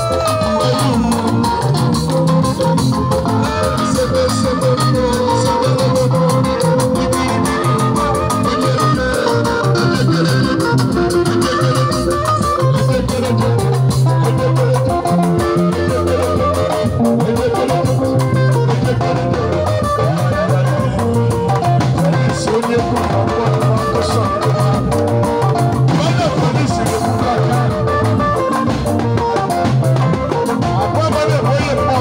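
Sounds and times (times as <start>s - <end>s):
drum kit beat: 0.0s - 32.0s
electric guitars: 0.0s - 32.0s.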